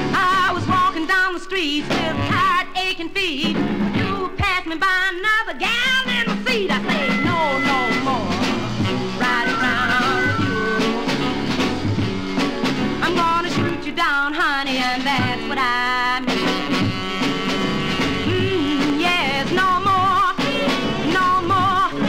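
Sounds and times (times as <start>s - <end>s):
instrumental band music: 0.0s - 4.6s, 5.6s - 22.0s.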